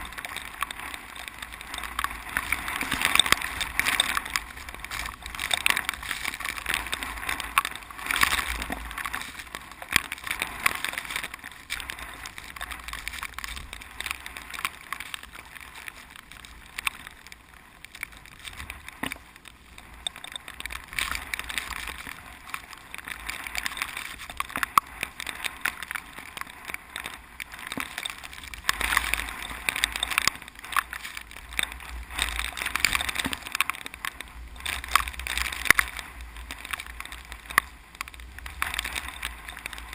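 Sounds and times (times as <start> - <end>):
wind rumble on microphone: 0.0 - 39.9
wind rustling through rice: 0.0 - 39.9.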